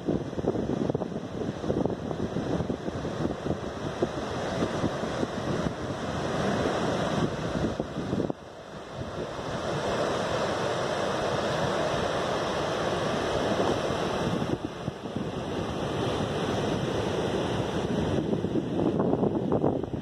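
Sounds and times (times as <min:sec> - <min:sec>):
surf breaking on beach: 0:00.0 - 0:20.0
wind blowing across microphone: 0:00.0 - 0:20.0.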